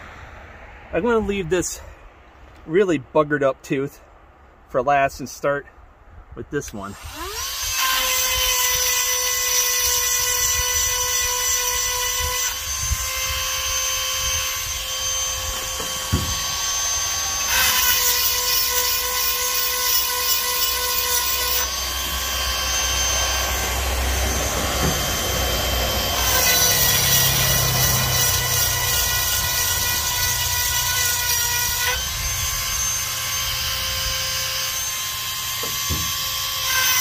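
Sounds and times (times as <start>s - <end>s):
rotary tool high whine: 6.9s - 37.0s
grinding stone rasping on metal: 7.2s - 37.0s.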